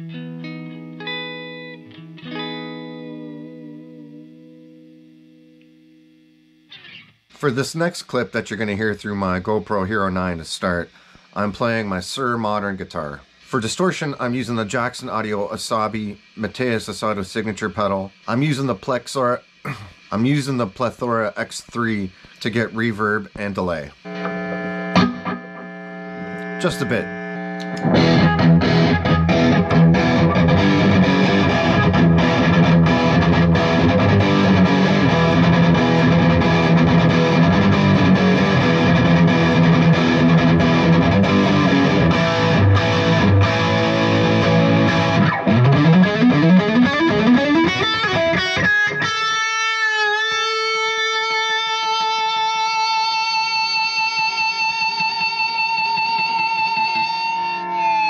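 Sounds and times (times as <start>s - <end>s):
distorted electric guitar: 0.0s - 8.3s, 17.9s - 58.0s.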